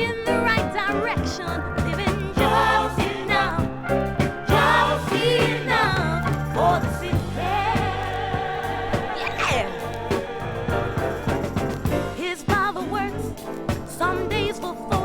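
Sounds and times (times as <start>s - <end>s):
gospel choir and soul band: 0.0s - 15.0s.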